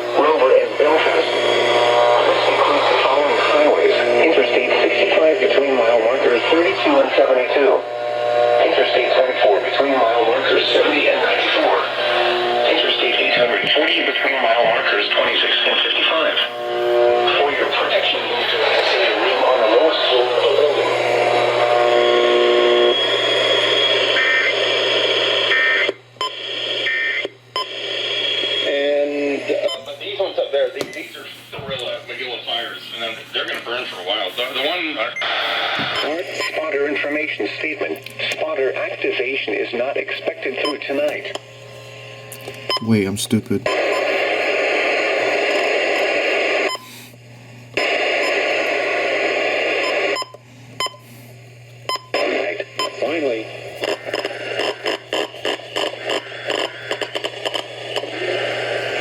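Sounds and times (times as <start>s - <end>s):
radio static hiss: 0.0s - 50.3s, 51.0s - 59.0s.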